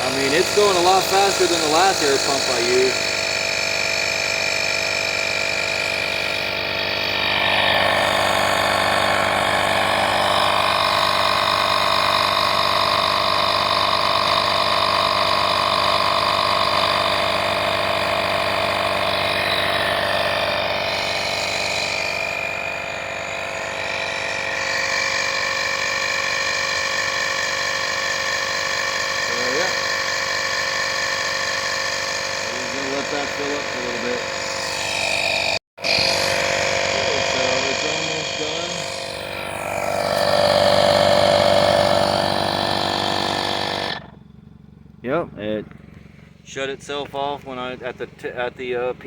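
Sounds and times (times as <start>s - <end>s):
air compressor running: 0.0s - 49.0s.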